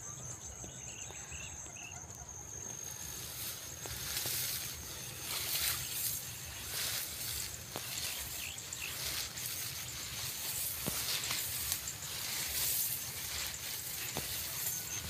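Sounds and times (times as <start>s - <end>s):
wind rustling rice plants: 2.4s - 15.0s.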